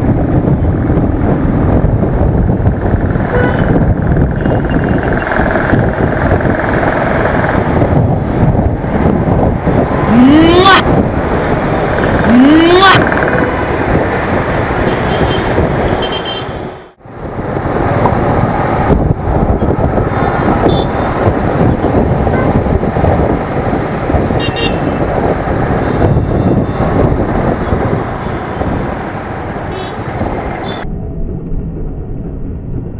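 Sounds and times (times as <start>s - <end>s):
motorcycle engine and road noise: 0.0s - 32.9s
wind rush: 0.0s - 32.9s.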